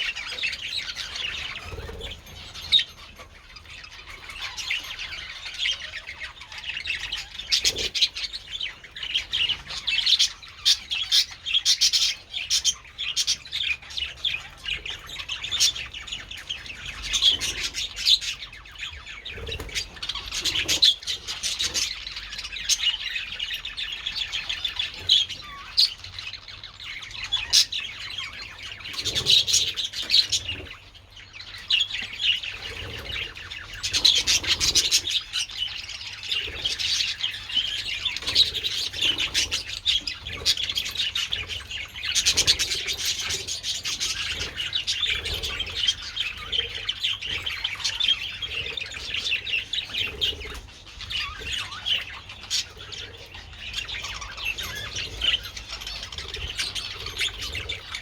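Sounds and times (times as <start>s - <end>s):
budgies chattering: 0.0s - 58.0s.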